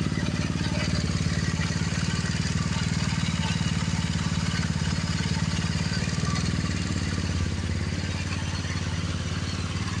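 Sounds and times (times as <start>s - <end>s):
engine running with rapid pulse: 0.0s - 10.0s.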